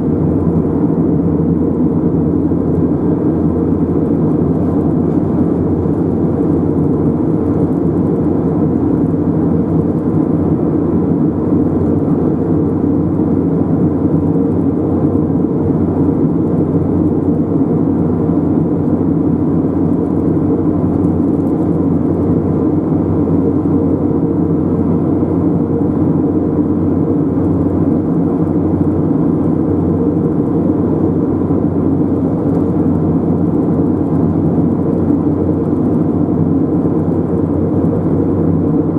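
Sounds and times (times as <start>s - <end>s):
car driving tyre and engine rumble: 0.0s - 38.9s.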